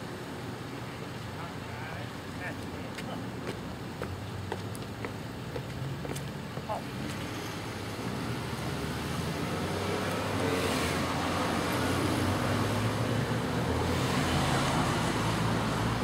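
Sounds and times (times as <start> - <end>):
vehicle engine and tyre hum: 0.0 - 16.0.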